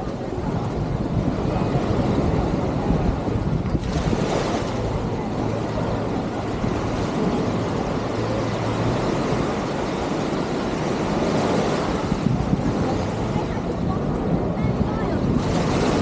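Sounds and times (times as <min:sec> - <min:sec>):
low engine hum: 0:00.0 - 0:16.0
surf: 0:00.0 - 0:16.0
wind on microphone: 0:00.0 - 0:16.0.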